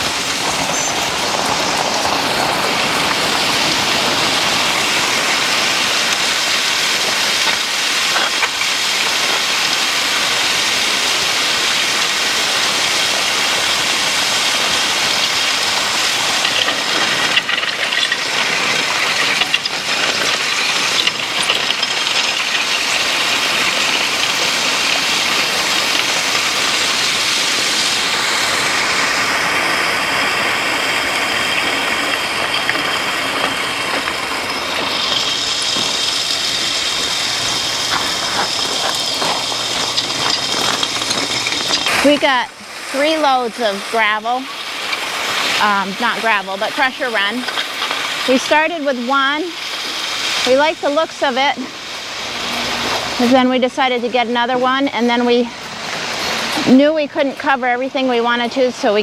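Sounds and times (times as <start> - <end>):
harrow tines scraping gravel: 0.0 - 59.0.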